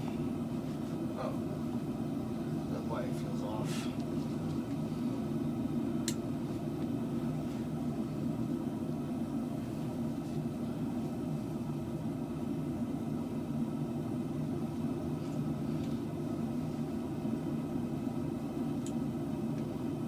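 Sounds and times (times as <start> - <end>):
low mechanical motor hum: 0.0 - 20.0.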